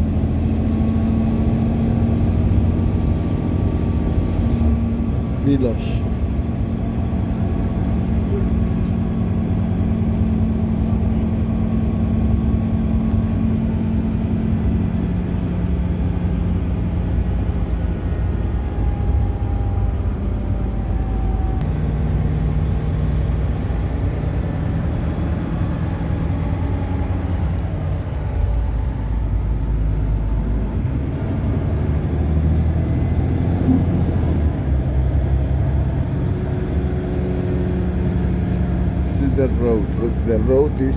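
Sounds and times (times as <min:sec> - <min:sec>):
bus engine drone: 0:00.0 - 0:40.9
road noise: 0:00.0 - 0:40.9.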